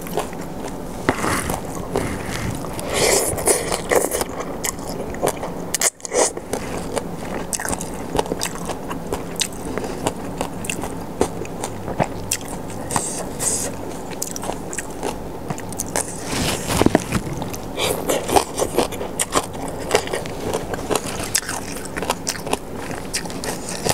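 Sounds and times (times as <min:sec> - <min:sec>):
chewing and crunching food: 0:00.0 - 0:23.9.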